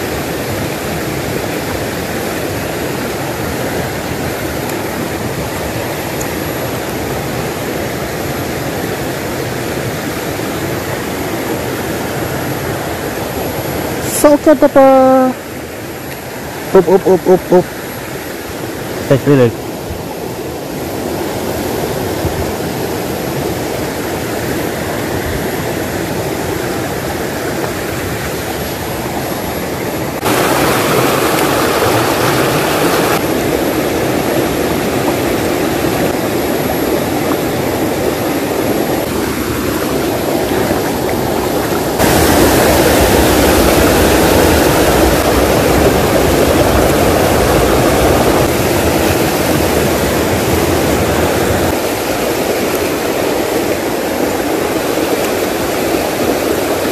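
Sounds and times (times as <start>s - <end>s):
stream rushing over stones: 0.0s - 56.9s.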